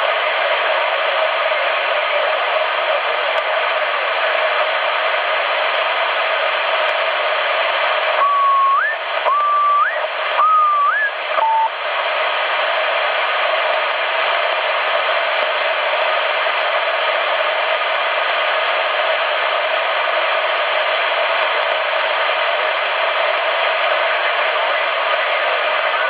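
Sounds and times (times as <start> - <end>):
radio band noise hiss: 0.0 - 26.0.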